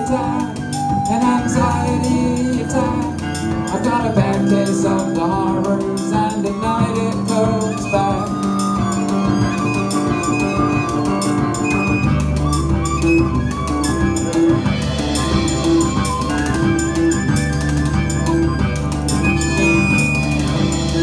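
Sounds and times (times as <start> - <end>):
bass guitar: 0.0 - 21.0
drum kit: 0.0 - 21.0
electric guitar: 0.0 - 21.0.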